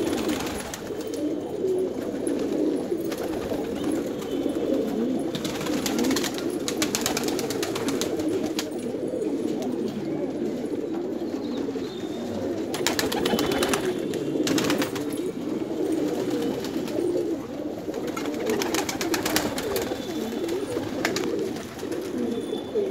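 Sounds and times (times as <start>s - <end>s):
pigeons cooing: 0.0s - 22.9s.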